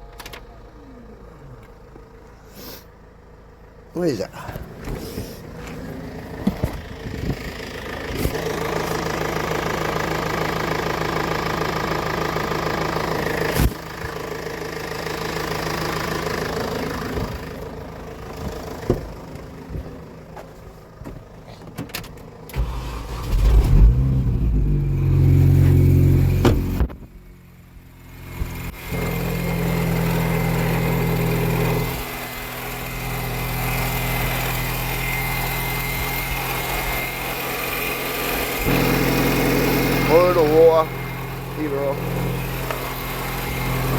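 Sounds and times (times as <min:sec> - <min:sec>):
car petrol engine running: 0:00.0 - 0:21.5, 0:22.2 - 0:43.9.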